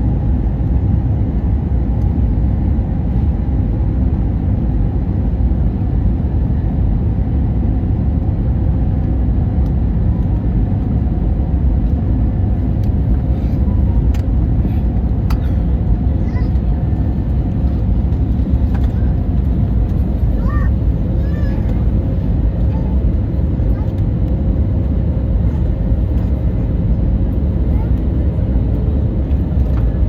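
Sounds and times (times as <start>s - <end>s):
airplane cabin rumble: 0.0s - 30.0s.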